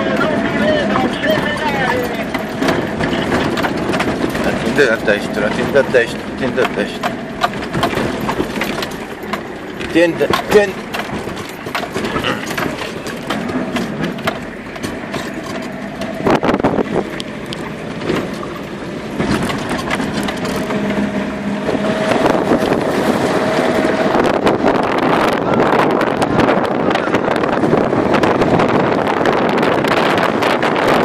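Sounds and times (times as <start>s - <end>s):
car engine running: 0.0s - 31.0s
steady whine: 0.0s - 31.0s
vehicle body rattling and knocking: 0.0s - 31.0s.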